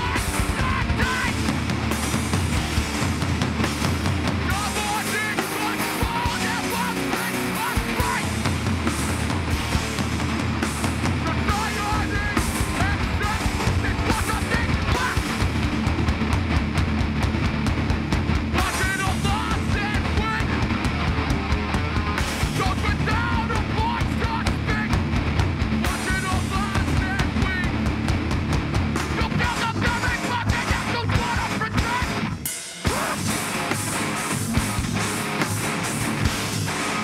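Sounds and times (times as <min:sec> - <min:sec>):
bass guitar: 0:00.0 - 0:37.0
distorted electric guitars: 0:00.0 - 0:37.0
pounding drums: 0:00.0 - 0:37.0.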